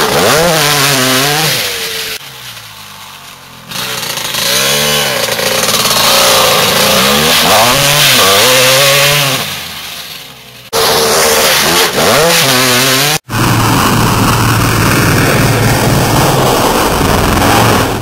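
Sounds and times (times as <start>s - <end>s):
dirt bike engine revving: 0.0s - 2.2s, 3.6s - 9.8s, 10.6s - 18.0s.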